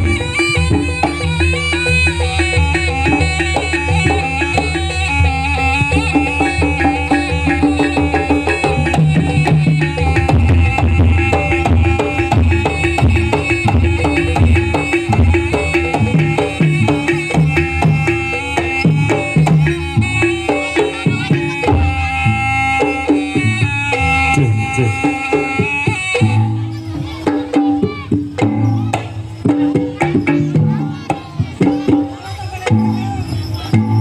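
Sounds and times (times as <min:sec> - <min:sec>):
gamelan melody: 0:00.0 - 0:34.0
hand drums beating fast rhythm: 0:00.0 - 0:34.0.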